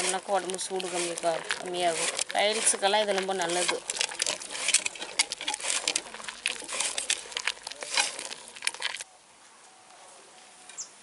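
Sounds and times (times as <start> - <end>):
shells and salt grinding: 0.0 - 9.1
faint outdoor background: 0.0 - 11.0.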